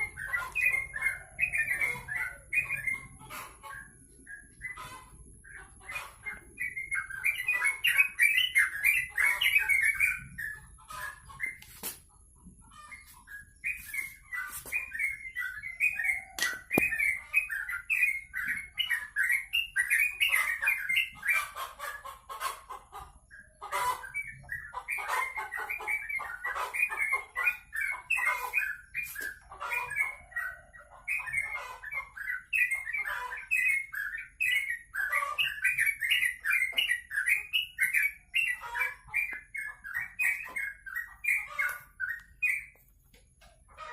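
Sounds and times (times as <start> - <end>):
songbird chattering warbles: 0.0 - 12.0, 12.6 - 22.1, 23.0 - 42.8.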